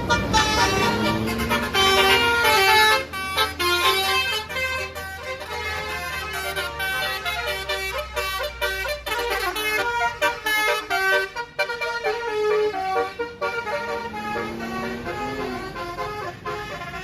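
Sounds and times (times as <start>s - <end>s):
musical air horn melody: 0.0s - 17.0s.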